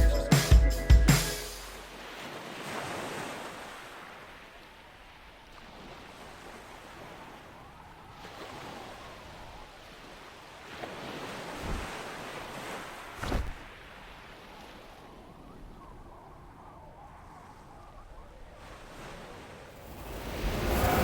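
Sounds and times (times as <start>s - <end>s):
ocean waves washing onto shore: 1.6s - 21.0s.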